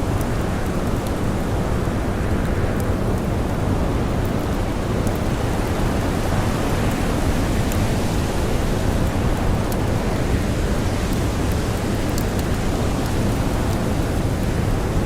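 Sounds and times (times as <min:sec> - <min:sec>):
faint campfire crackles: 0:00.0 - 0:15.0.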